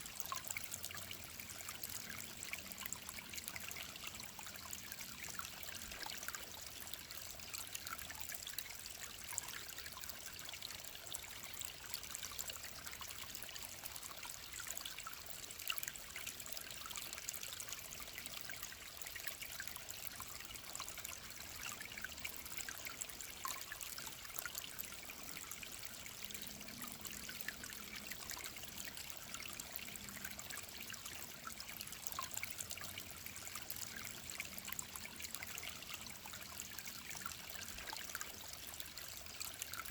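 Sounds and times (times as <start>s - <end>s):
mountain stream trickling: 0.0s - 39.9s.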